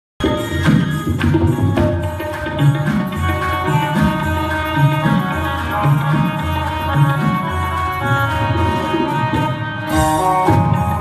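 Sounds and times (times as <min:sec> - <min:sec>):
harmonium playing held chords: 0:00.2 - 0:11.0.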